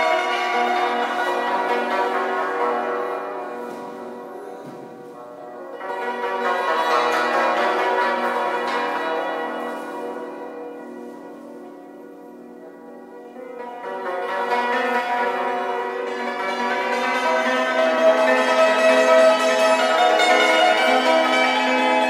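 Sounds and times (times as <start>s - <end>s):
hammered dulcimer notes: 0.0s - 22.0s.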